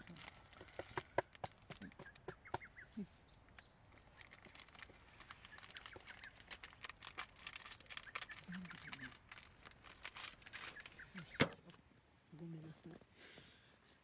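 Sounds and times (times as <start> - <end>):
birds chirping: 0.0 - 9.8, 10.4 - 14.0.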